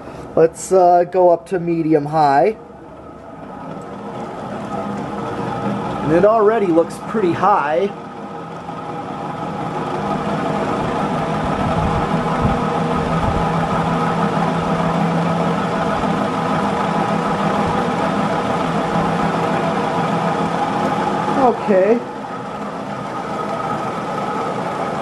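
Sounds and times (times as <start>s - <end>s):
ceiling fan motor hum: 0.0s - 25.0s
rough noisy fan bearings: 0.0s - 25.0s.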